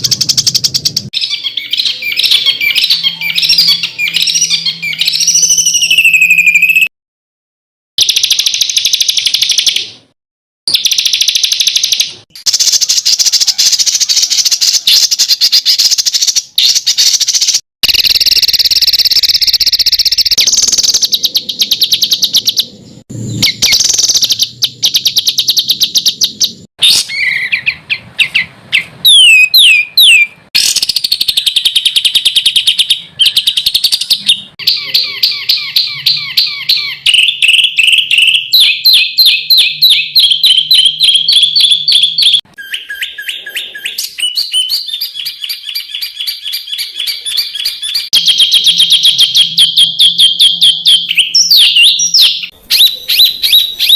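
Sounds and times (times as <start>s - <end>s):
songbird trills and calls: 0.0s - 6.9s, 10.7s - 53.9s.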